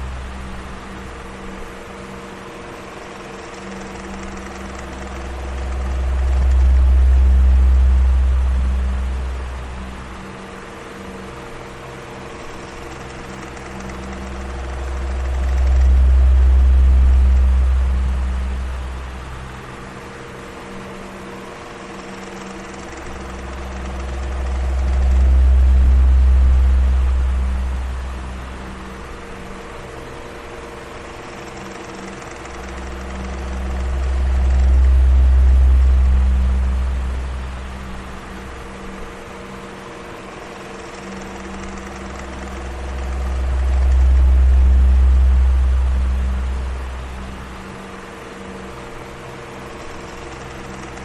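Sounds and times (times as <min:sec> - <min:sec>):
electric fan whirring: 0:00.0 - 0:51.0
faint motor hum: 0:00.0 - 0:51.0
low rumble: 0:04.2 - 0:10.4, 0:12.1 - 0:19.9, 0:22.7 - 0:39.6, 0:40.2 - 0:51.0.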